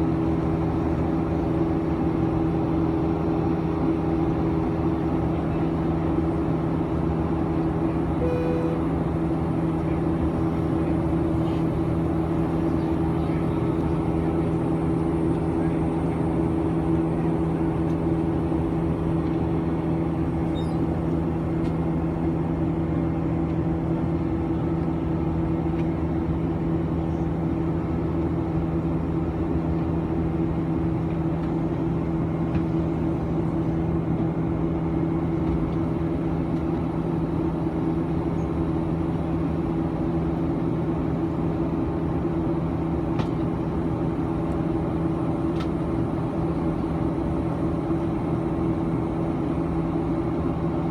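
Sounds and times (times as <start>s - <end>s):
airliner cabin engine drone: 0.0s - 50.9s.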